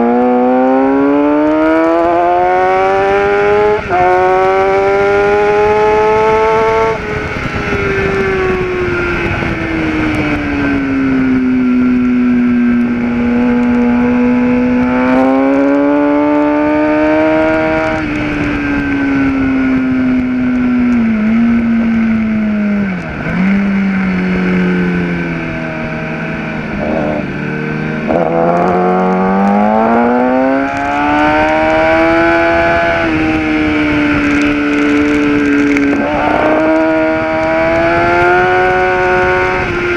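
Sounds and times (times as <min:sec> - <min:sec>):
motorcycle engine revving: 0:00.0 - 0:39.9
wind rush: 0:00.8 - 0:39.9.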